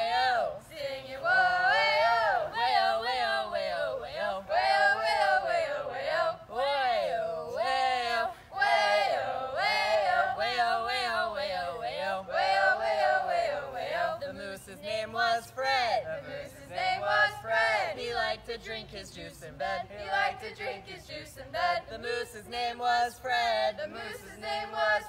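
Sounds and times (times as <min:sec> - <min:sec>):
young voices singing: 0:00.0 - 0:25.0.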